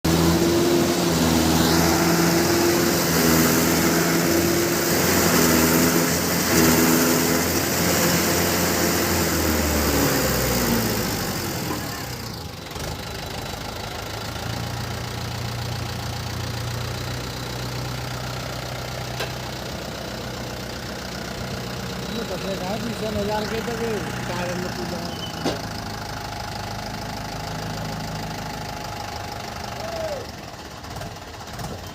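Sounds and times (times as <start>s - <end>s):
tractor diesel engine: 0.0s - 31.9s.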